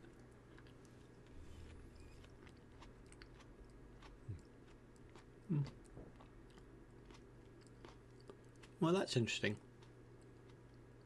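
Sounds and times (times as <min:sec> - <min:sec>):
man chewing: 0:00.0 - 0:08.8, 0:09.6 - 0:11.0.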